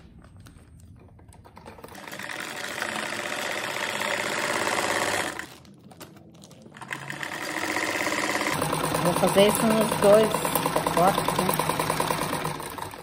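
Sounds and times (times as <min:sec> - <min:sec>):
sewing machine stitching plastic: 0:01.3 - 0:13.0.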